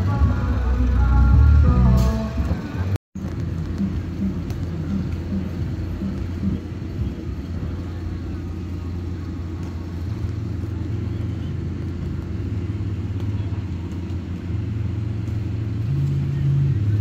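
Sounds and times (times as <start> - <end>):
low machine rumble: 0.0 - 17.0.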